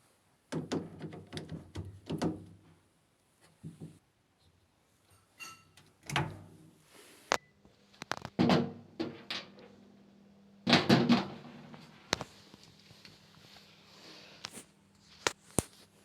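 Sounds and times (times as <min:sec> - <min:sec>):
faint steady hum: 0:01.7 - 0:16.0.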